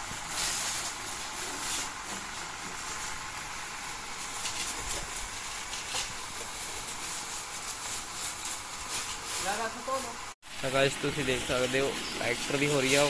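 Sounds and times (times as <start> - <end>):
high-pressure water jet hissing: 0.0 - 13.0.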